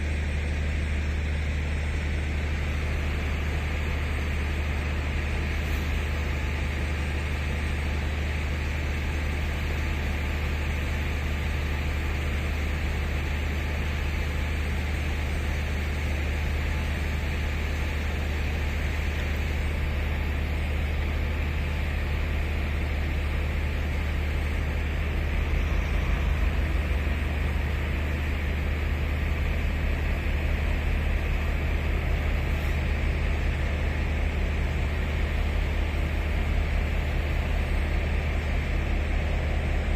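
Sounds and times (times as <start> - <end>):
locomotive blowers humming and whirring: 0.0 - 39.9.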